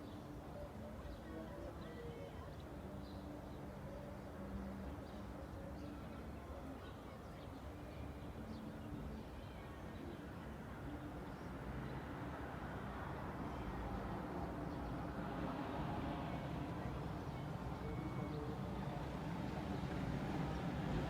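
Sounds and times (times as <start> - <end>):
low hum of traffic: 0.0 - 21.0.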